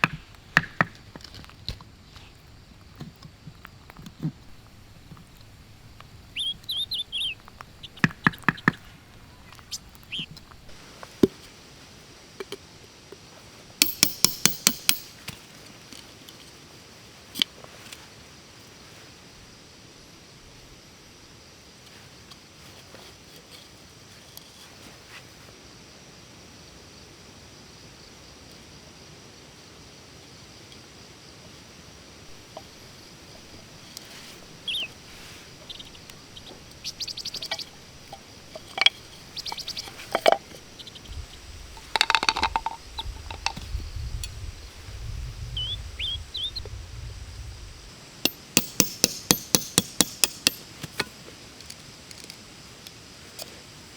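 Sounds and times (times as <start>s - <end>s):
faint steady hiss: 0.0s - 53.9s.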